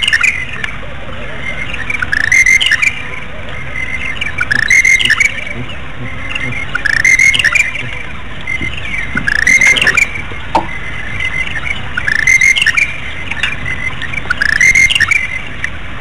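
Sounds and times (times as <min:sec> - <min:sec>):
bird calling: 0:00.0 - 0:15.7
low background rumble: 0:02.9 - 0:16.0.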